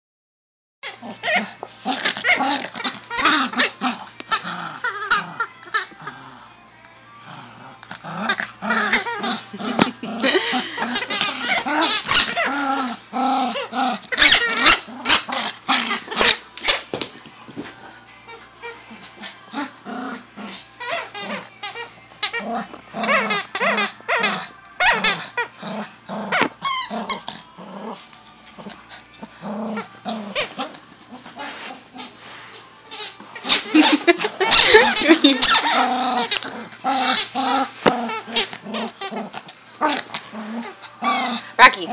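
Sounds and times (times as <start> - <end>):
small dog growling and yipping: 0.8 - 16.8, 18.3 - 41.9.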